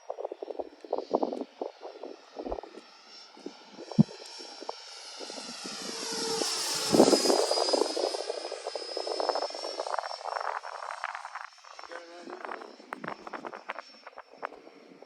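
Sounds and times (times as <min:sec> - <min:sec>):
model jet fan whine: 0:00.0 - 0:15.0
wind buffeting microphone: 0:00.0 - 0:15.0.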